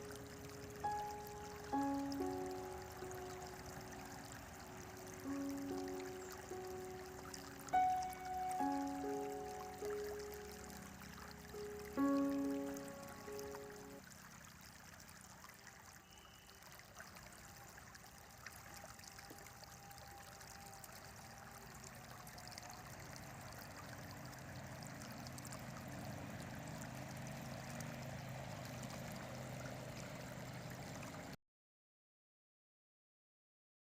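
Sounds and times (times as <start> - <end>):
river flowing: 0.0 - 31.4.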